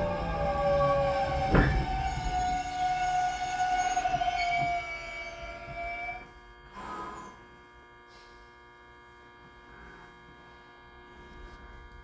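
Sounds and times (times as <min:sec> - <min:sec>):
train electrical hum: 0:00.0 - 0:12.0.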